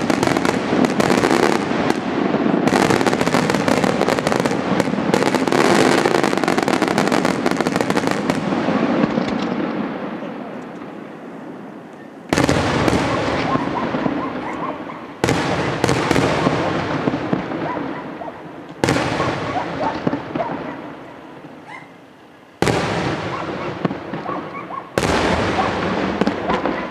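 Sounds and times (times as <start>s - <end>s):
firework bangs: 0.0s - 22.0s, 22.6s - 26.9s.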